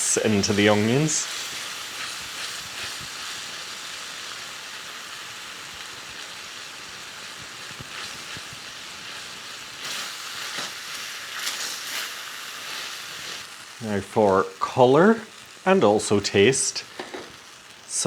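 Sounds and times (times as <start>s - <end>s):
onions sizzling in a pan: 0.0s - 18.0s.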